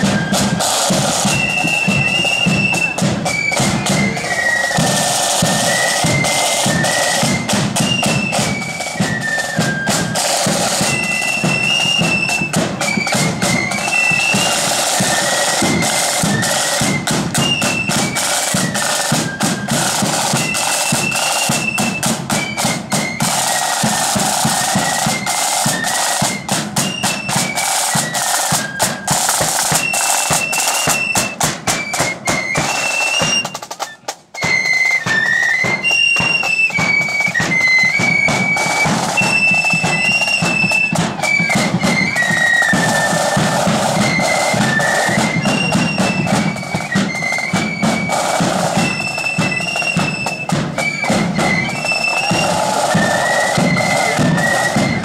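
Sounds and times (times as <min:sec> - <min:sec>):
flutes playing a tune: 0:00.0 - 0:55.0
side drums rolling: 0:00.0 - 0:55.0.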